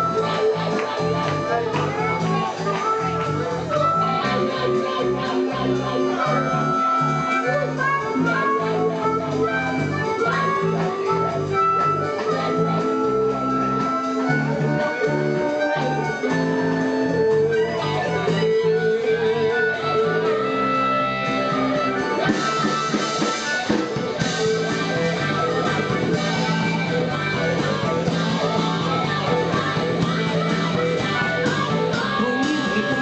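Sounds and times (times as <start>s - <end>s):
bass line: 0.0s - 33.0s
blues guitar held notes: 0.0s - 33.0s.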